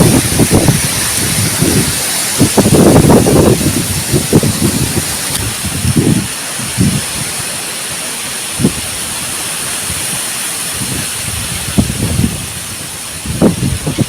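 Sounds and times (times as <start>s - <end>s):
strong wind rushing: 0.0s - 7.6s, 8.4s - 14.0s
wind buffeting microphone: 0.0s - 7.6s, 8.4s - 14.0s.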